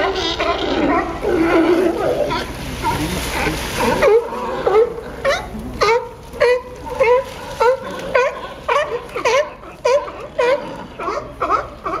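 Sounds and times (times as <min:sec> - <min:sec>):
sea lions barking: 0:00.0 - 0:12.0.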